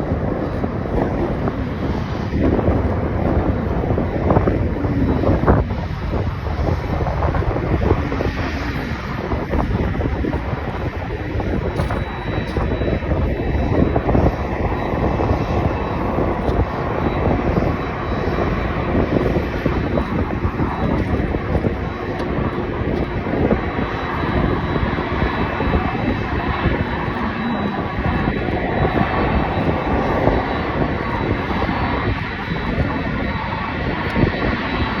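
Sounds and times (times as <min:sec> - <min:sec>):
jet engines at takeoff: 0:00.0 - 0:35.0.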